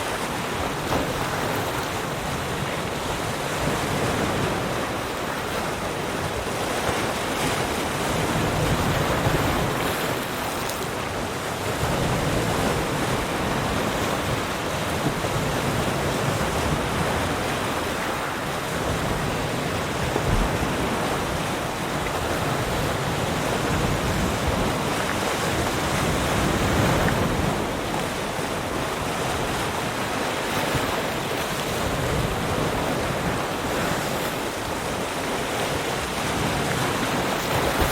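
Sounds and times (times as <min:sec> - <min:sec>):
sea waves breaking on shore: 0:00.0 - 0:37.9.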